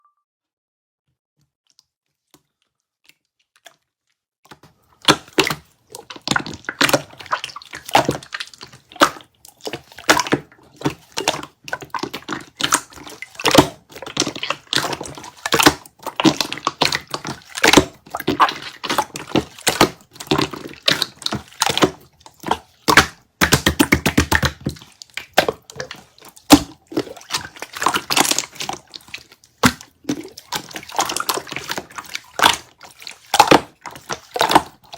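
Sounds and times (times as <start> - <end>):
jelly clicks and wet squishes: 1.6 - 34.9.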